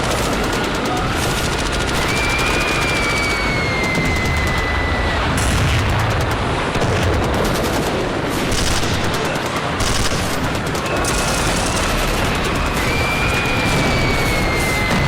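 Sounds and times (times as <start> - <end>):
machine-gun fire: 0.0 - 15.0.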